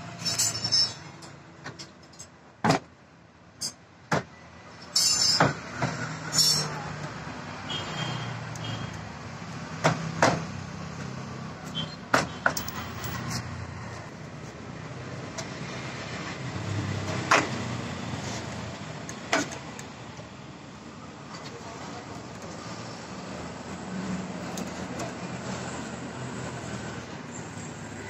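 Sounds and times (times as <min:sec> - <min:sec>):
low hum of traffic: 0:00.0 - 0:28.0.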